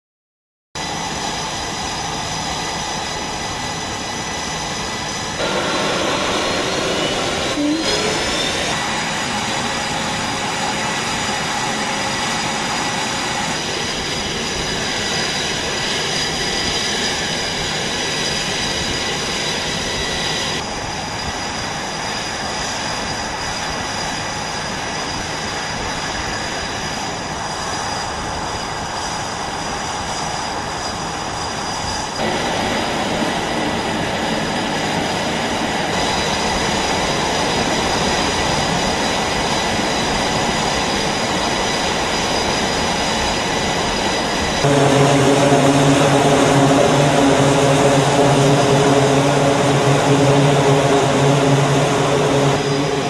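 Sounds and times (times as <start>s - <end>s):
jet engines running: 0.8s - 53.0s.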